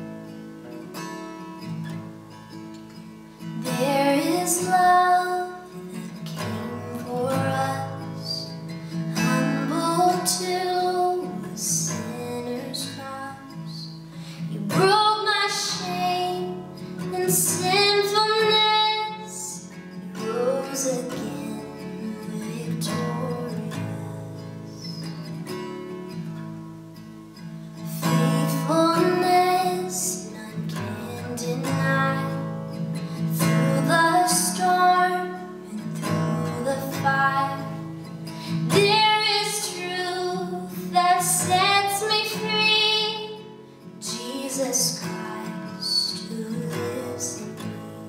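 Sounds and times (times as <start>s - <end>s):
strummed acoustic guitar: 0.0s - 48.0s
woman singing: 2.9s - 25.7s, 27.8s - 48.0s.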